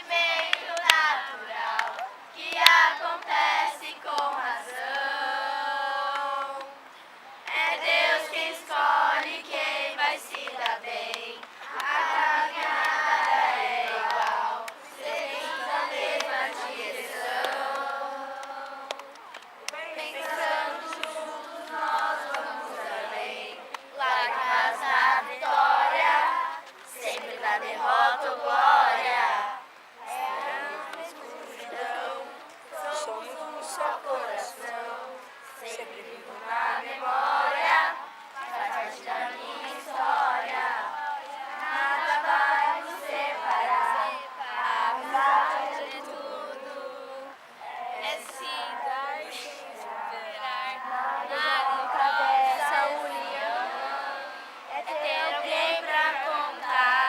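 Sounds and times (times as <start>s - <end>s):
children singing in chorus: 0.0s - 57.0s.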